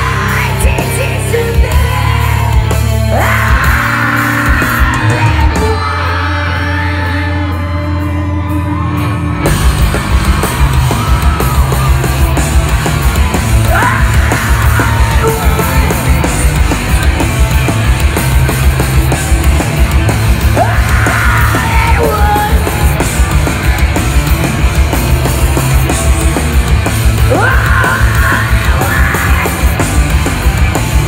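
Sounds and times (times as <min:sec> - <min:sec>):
fast drums: 0:00.0 - 0:06.0, 0:09.4 - 0:31.0
live rock band playing: 0:00.0 - 0:31.0.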